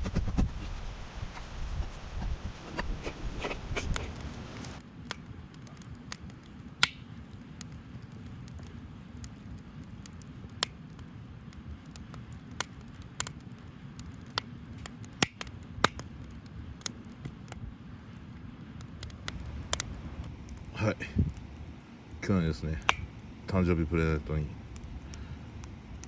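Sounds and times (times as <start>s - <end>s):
low steady rumble: 0.0s - 26.0s
campfire crackling and popping: 3.4s - 26.0s.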